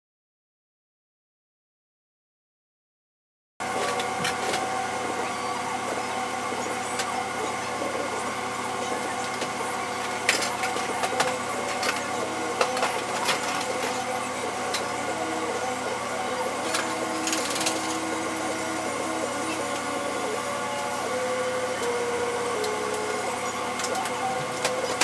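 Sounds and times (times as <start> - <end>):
hum of kitchen exhaust hood: 3.6 - 25.0.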